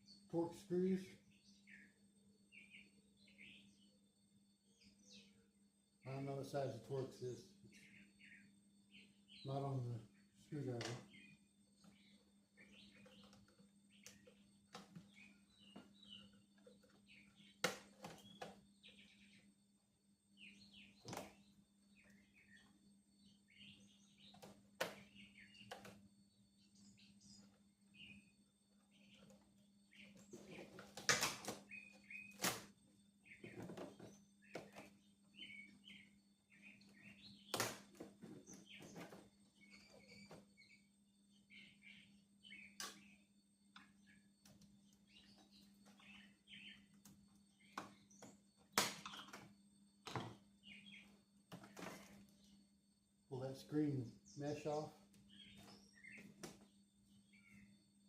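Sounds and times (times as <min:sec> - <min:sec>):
small birds chirping faintly: 0:00.0 - 0:58.0.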